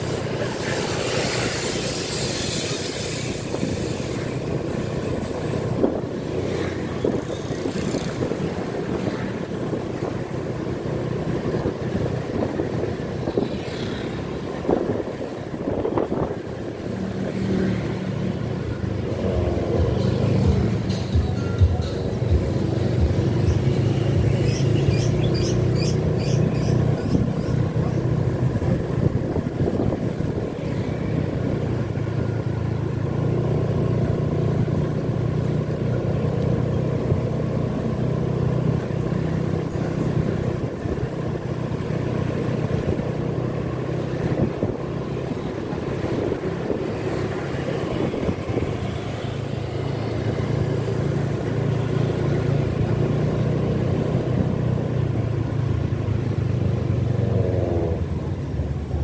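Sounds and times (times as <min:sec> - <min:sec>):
car engine humming: 0:00.0 - 0:59.0
tyres on wet road: 0:00.0 - 0:59.0.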